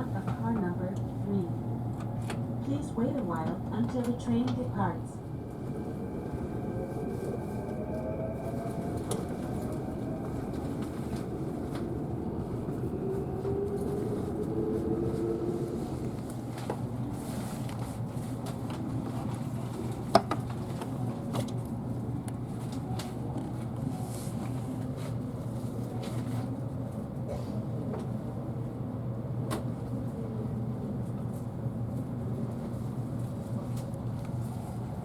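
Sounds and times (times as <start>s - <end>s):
train cabin hum: 0.0s - 35.0s.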